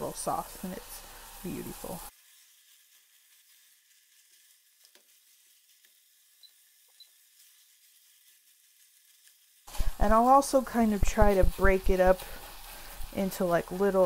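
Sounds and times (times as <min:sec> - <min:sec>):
sausage sizzling in a pan: 0:00.0 - 0:14.0
spatula scraping a pan: 0:00.3 - 0:14.0.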